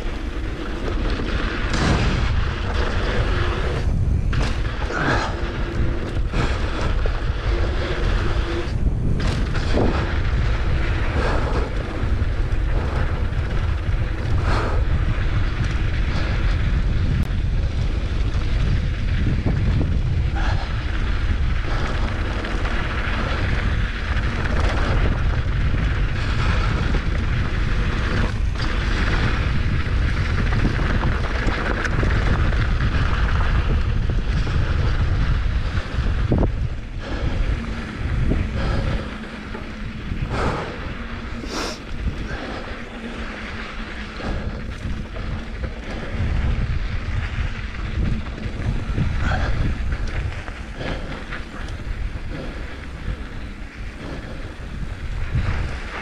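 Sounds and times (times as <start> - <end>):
bike knocks and rattles: 0.0 - 56.0
tyres on rocky dirt trail: 0.0 - 56.0
wind buffeting microphone: 0.0 - 56.0.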